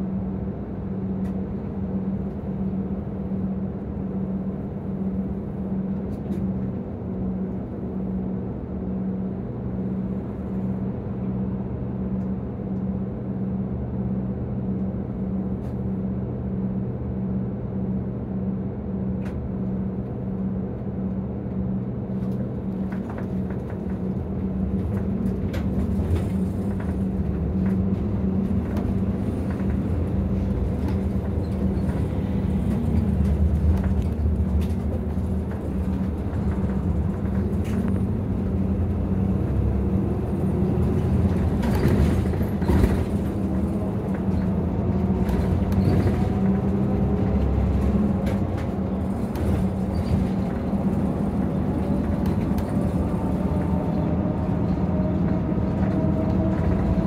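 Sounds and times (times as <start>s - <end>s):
bus engine humming: 0.0s - 57.0s
road rumble: 0.0s - 57.0s.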